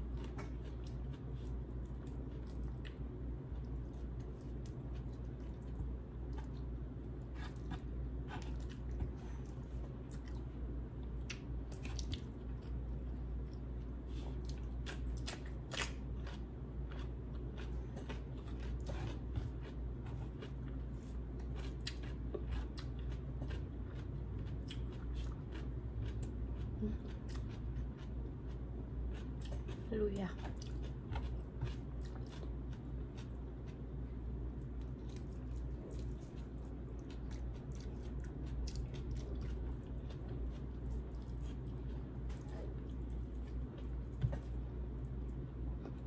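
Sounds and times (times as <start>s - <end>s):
person chewing food: 0.0s - 46.0s
steady low hum: 0.0s - 46.0s.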